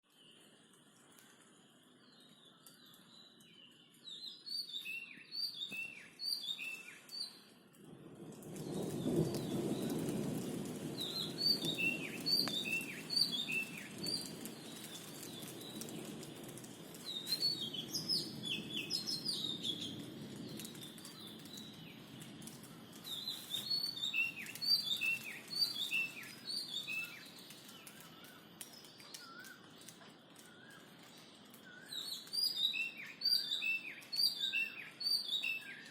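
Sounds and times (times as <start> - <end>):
songbird chirping: 0.0 - 7.8, 8.6 - 35.9.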